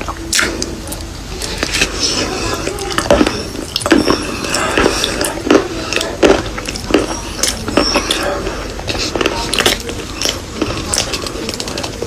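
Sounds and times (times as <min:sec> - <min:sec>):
person chewing crunchy chalk: 0:00.0 - 0:12.0.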